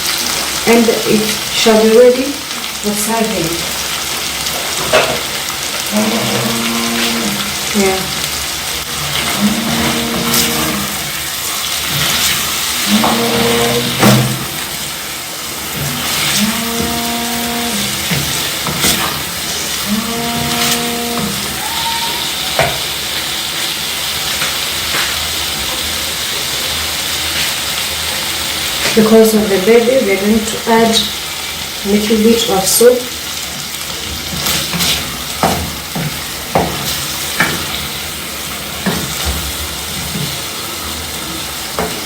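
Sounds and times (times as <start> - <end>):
liver sizzling in a pan: 0.0 - 42.0.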